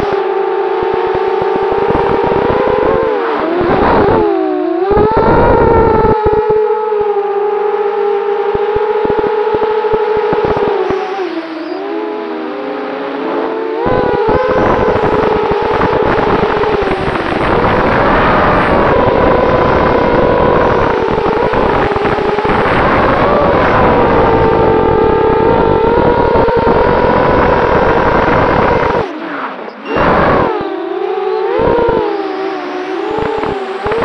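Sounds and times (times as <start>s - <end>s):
wind noise: 0.0s - 29.2s, 29.8s - 34.0s.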